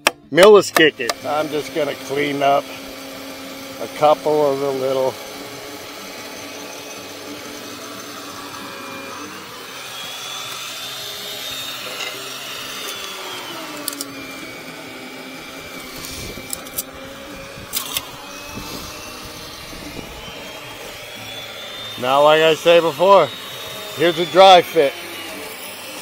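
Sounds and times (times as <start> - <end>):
electric motor tool running: 0.0 - 26.0.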